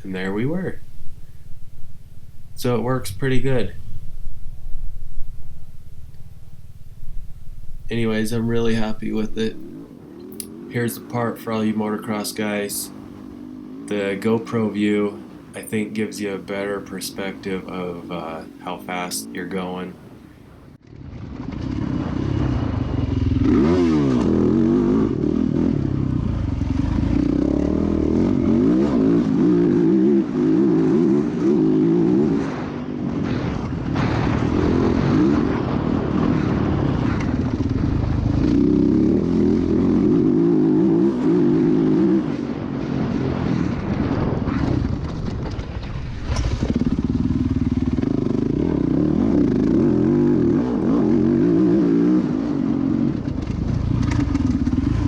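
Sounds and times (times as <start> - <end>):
dirt bike engine revving: 0.0 - 20.2, 20.9 - 55.0.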